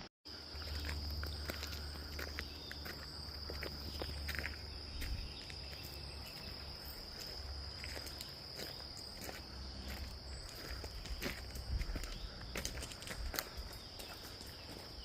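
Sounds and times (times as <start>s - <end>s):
footsteps on a path: 0.3s - 15.0s
high insect drone: 0.3s - 15.0s.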